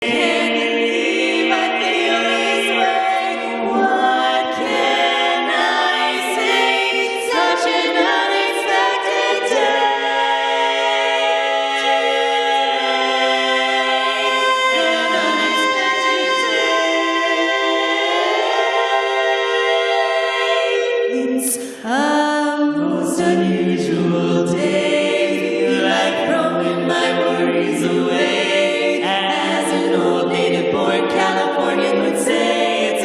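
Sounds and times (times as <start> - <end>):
female a cappella quartet singing: 0.0 - 33.0.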